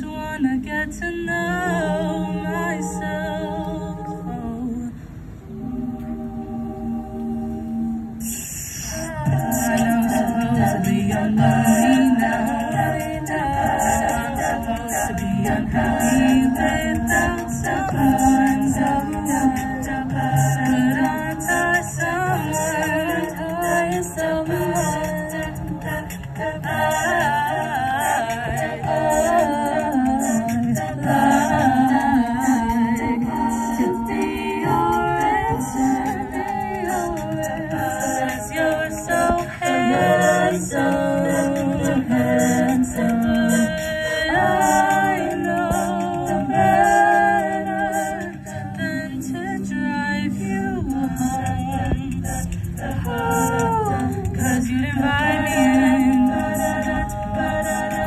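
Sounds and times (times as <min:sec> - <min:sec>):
women singing a cappella harmony: 0:00.0 - 0:58.0.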